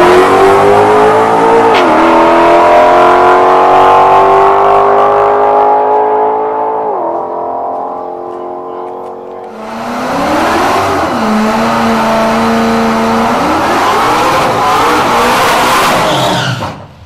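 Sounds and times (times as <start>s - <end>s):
engine revving hard: 0.0s - 7.8s, 9.5s - 16.6s.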